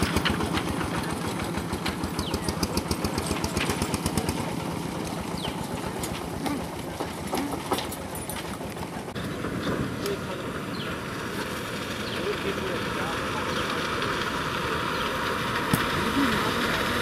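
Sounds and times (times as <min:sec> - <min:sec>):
small cart engine running: 0:00.0 - 0:17.0.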